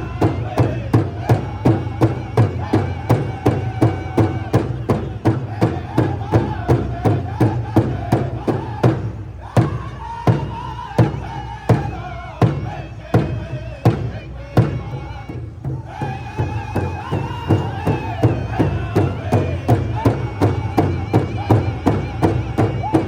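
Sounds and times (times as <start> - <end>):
group singing high voices: 0.0 - 23.0
large hand drum beat: 0.0 - 23.0.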